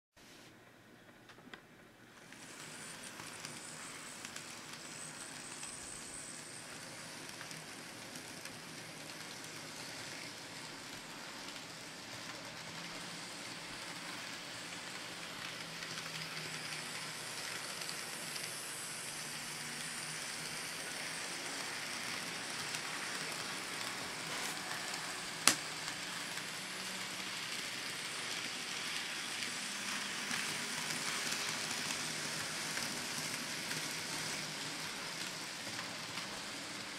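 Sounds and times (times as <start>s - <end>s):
model train wheels rolling on rails: 2.2s - 36.9s.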